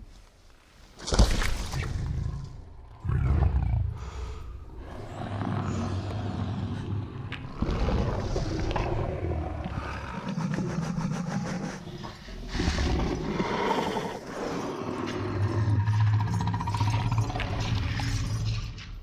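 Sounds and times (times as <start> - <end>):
low-pitched dinosaur growls: 1.9 - 19.0.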